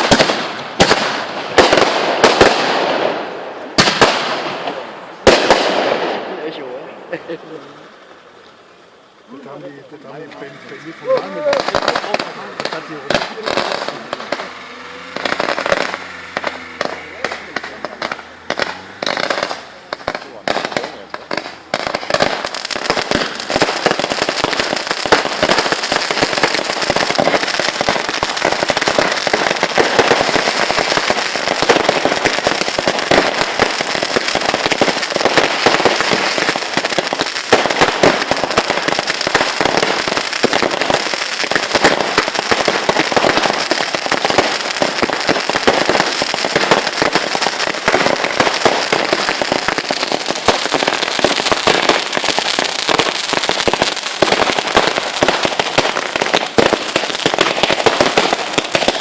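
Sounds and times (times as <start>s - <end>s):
fireworks crackling bangs: 0.0s - 59.0s.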